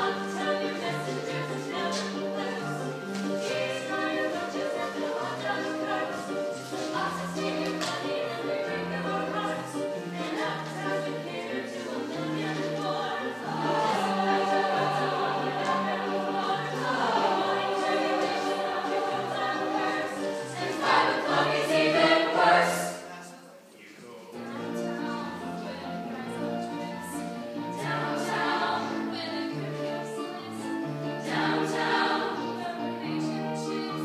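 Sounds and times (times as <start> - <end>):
group singing: 0.0 - 23.5, 24.4 - 34.0.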